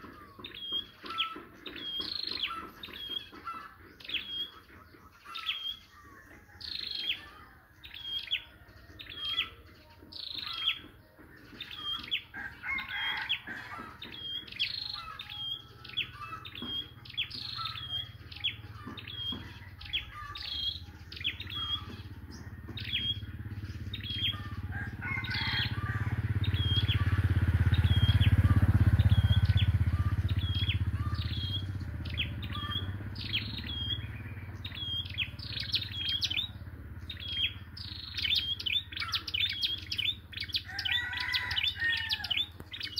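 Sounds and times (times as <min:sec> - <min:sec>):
small songbird calling: 0:00.0 - 0:42.9.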